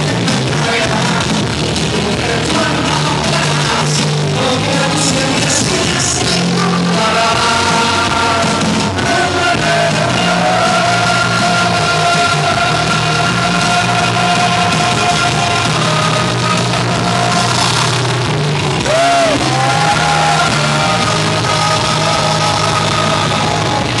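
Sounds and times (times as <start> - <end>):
man singing into microphone: 0.0 - 18.1, 18.8 - 24.0
loud rock music: 0.0 - 24.0.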